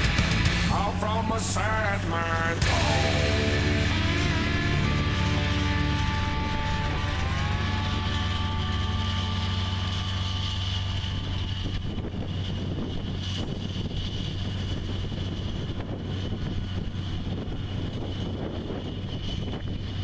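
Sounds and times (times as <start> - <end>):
tractor diesel engine running: 0.0 - 20.0
wind buffeting microphone: 0.0 - 20.0.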